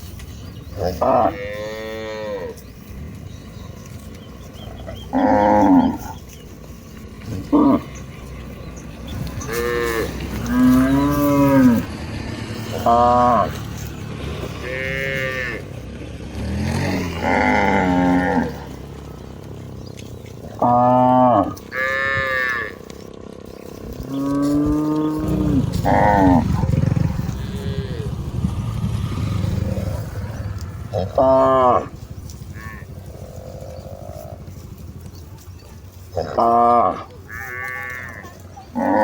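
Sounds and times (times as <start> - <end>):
cows mooing: 0.3 - 12.0, 12.6 - 39.0.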